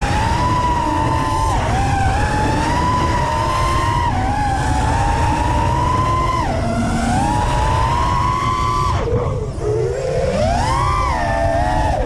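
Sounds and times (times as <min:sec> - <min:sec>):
drone motors whining: 0:00.0 - 0:12.0
low rumbling noise: 0:00.0 - 0:12.0.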